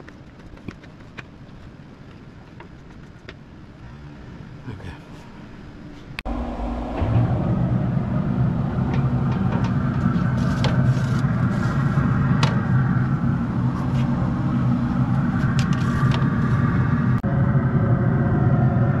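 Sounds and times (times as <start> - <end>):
grill fan and fire humming: 1.4 - 19.0.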